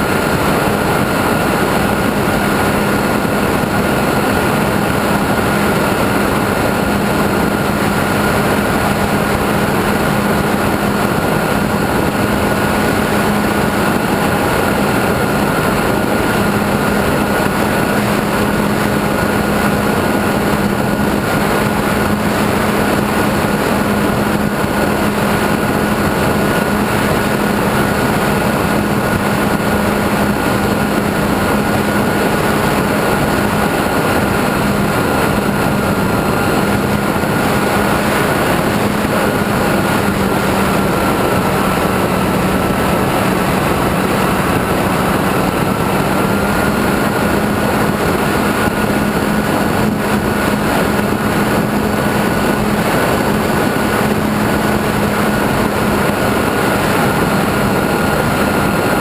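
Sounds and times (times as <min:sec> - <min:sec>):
model airplane motor droning: 0:00.0 - 0:59.0
rushing wind: 0:00.0 - 0:59.0.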